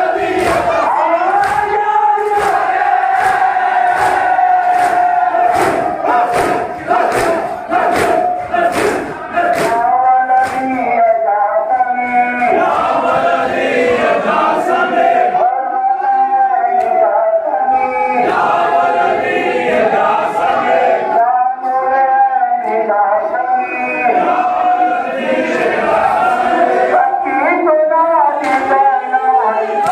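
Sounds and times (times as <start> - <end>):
crowd of men chanting a lament: 0.0 - 29.9.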